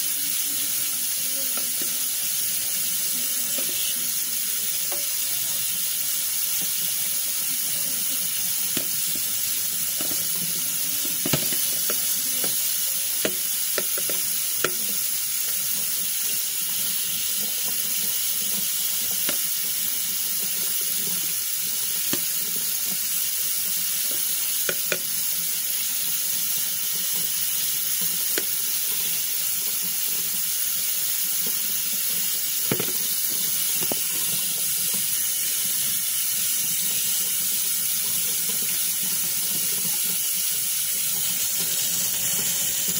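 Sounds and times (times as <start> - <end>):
tap water splashing into sink: 1.4 - 2.4, 3.0 - 6.9, 8.6 - 25.5, 26.3 - 30.4, 31.2 - 42.9.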